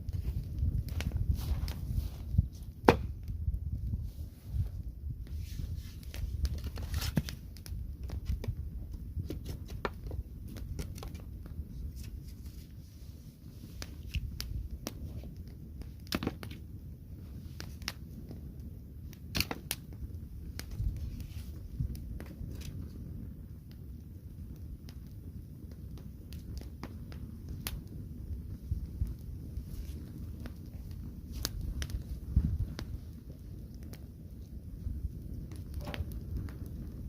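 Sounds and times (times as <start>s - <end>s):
low rumble of flames: 0.0s - 37.0s
wood fire crackling and popping: 0.0s - 37.0s.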